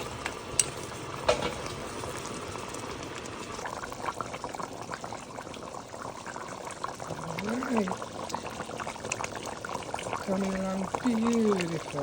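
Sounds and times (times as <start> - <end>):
stew bubbling and sizzling: 0.0 - 12.0
small crackles: 0.1 - 12.0.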